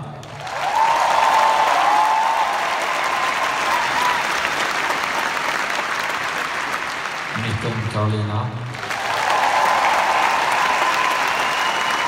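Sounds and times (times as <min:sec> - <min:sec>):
crowd applauding and cheering: 0:00.0 - 0:12.0.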